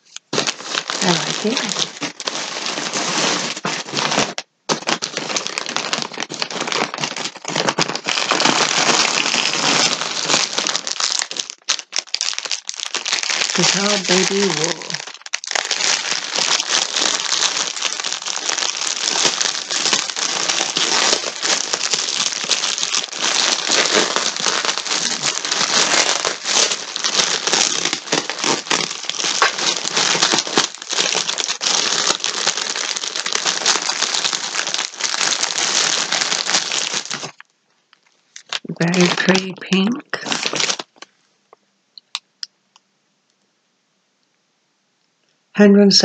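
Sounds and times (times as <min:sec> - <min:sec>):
plastic packaging crinkling: 0:00.0 - 0:41.2.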